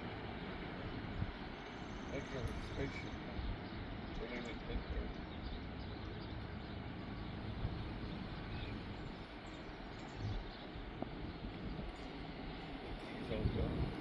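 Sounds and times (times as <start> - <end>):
freight train cars rumbling: 0.0 - 14.0.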